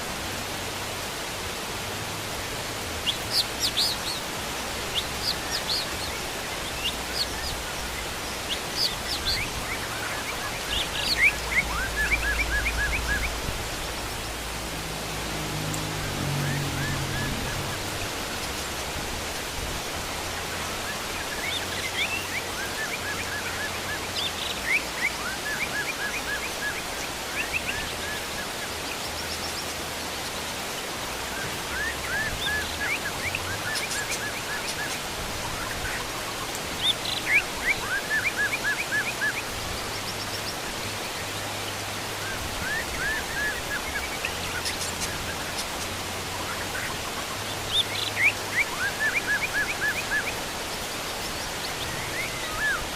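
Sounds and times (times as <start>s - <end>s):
heavy rain hissing: 0.0s - 52.9s
birds chirping: 2.6s - 52.9s.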